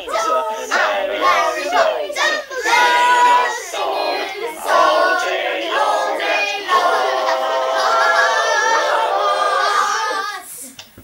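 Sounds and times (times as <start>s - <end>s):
girls singing together: 0.0s - 10.7s.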